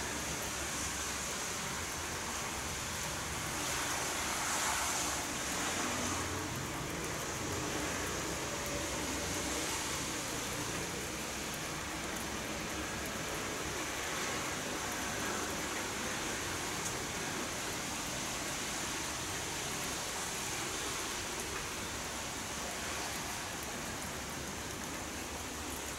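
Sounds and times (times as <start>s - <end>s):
rain falling: 0.0s - 25.9s.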